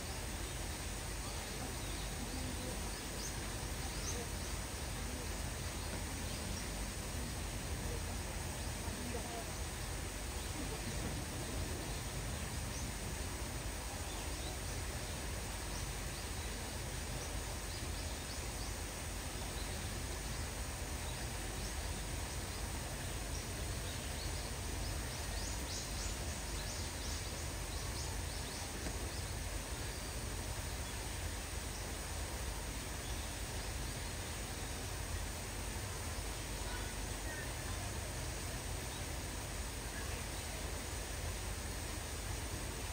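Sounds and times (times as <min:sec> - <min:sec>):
light rain hiss: 0:00.0 - 0:42.9.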